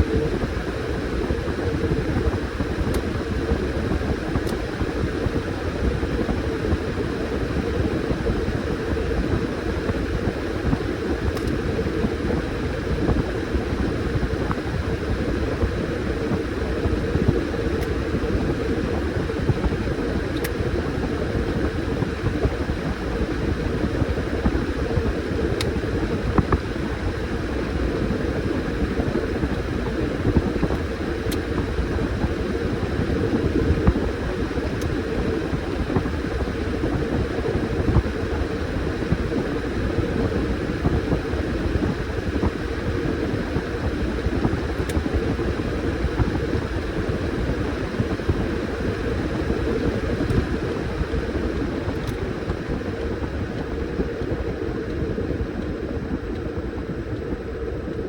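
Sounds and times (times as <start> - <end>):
washing machine churning: 0.0 - 58.0.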